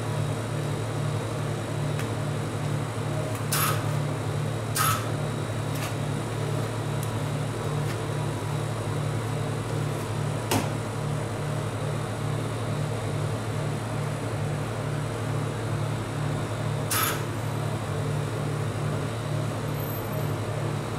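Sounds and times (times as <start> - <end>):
cold plate machine humming: 0.0 - 20.9.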